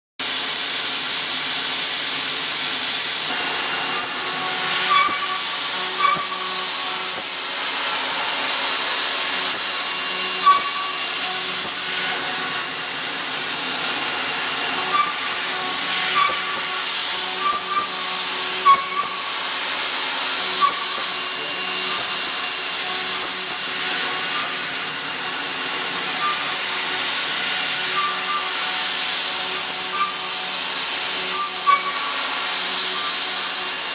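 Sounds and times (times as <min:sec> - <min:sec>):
machine spindle high hiss: 0:00.2 - 0:33.9
cutter squealing on metal: 0:01.0 - 0:33.9.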